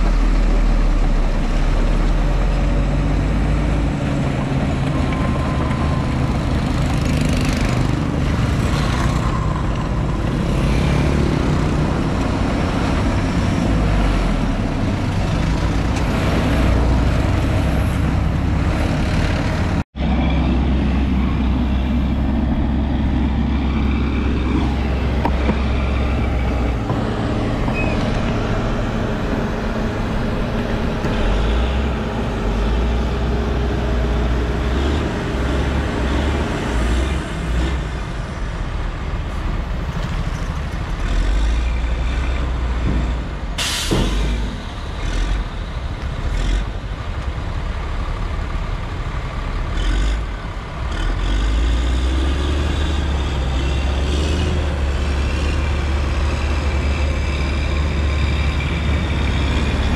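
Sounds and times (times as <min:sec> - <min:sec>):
heavy machinery diesel engines running: 0:00.0 - 0:59.9.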